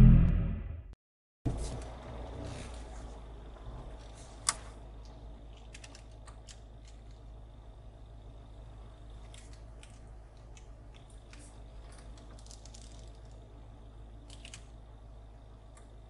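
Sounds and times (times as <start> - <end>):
faint car engine hum: 1.5 - 16.0.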